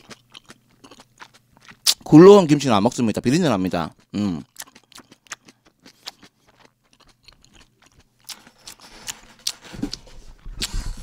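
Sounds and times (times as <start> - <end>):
person chewing food: 0.0 - 2.0, 3.8 - 11.0.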